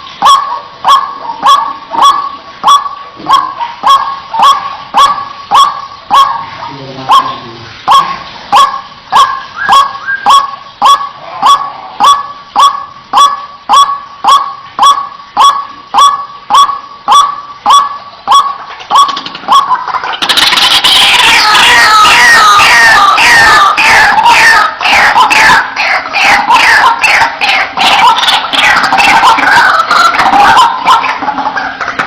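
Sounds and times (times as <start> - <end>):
chorus of harsh bird calls: 0.0 - 32.0
waterhen calling: 0.0 - 32.0.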